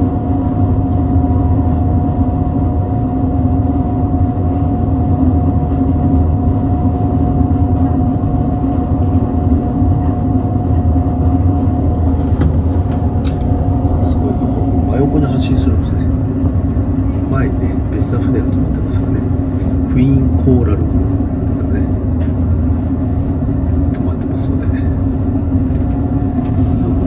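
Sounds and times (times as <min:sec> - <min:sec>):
ship engines droning: 0:00.0 - 0:27.0.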